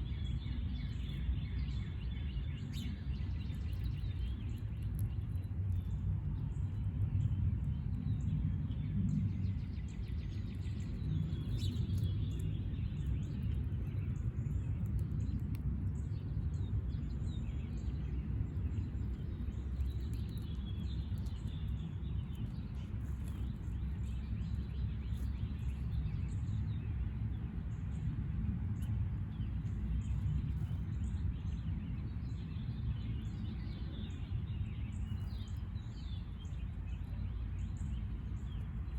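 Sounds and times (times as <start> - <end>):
low background rumble: 0.0 - 38.9
small birds chirping: 0.0 - 38.9.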